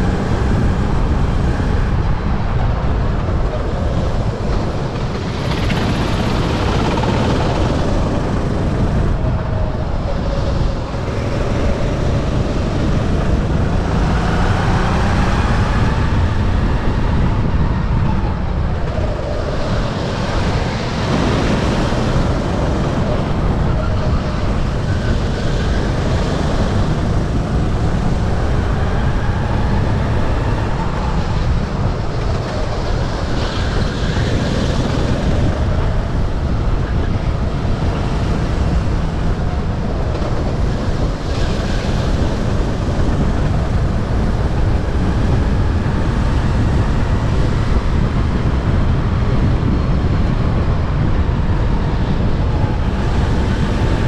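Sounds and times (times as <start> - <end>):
go-kart engine racing: 0.0 - 54.0
wind buffeting microphone: 0.0 - 54.0.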